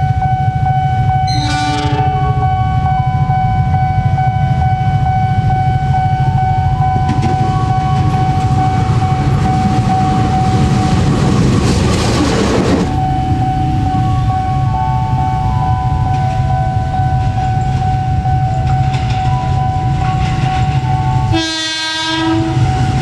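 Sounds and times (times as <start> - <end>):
level-crossing warning alarm: 0.0 - 23.0
locomotive engine rumbling: 0.0 - 23.0.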